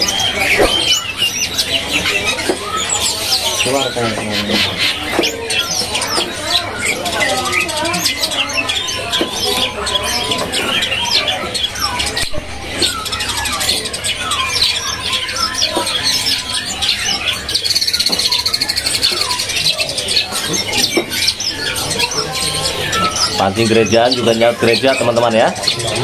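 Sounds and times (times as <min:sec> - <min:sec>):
bird trilling: 0:00.0 - 0:26.0
songbirds chirping and singing: 0:00.0 - 0:26.0.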